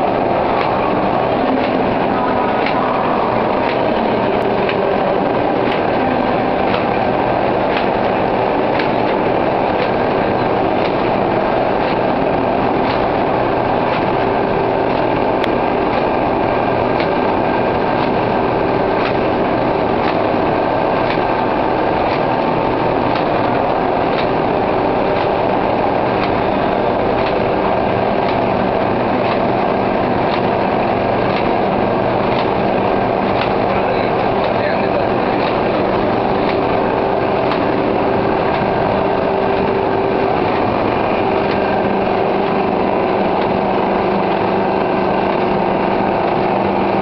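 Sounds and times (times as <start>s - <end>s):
paper bag machine running: 0.0s - 47.0s.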